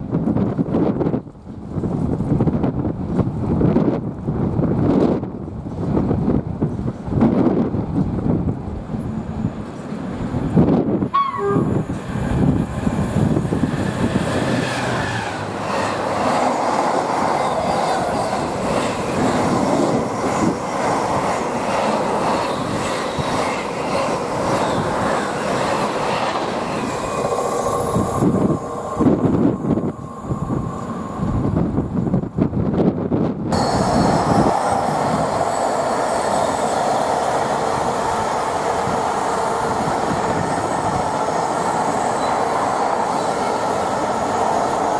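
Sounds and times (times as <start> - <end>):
train passing at speed: 0.0 - 44.9.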